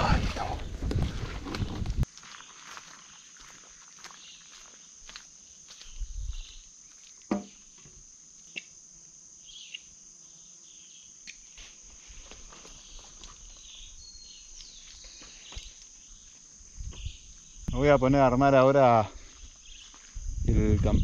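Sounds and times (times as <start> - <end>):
high-pitched insect chorus: 2.2 - 21.0.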